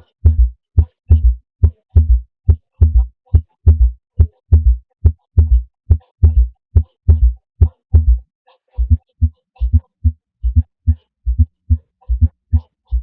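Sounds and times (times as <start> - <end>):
heartbeat thumps: 0.0 - 13.0.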